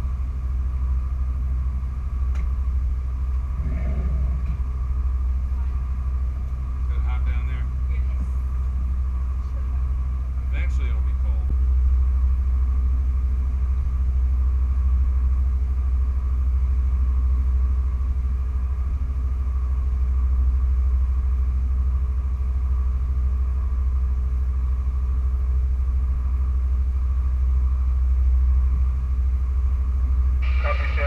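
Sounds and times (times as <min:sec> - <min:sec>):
boat engines low rumble: 0:00.0 - 0:31.0
faint steady hum: 0:00.0 - 0:31.0.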